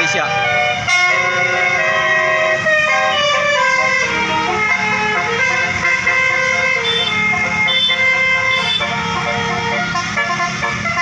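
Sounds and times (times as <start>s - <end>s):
bus horn playing a melody: 0.0s - 11.0s
low engine rumble: 0.0s - 11.0s.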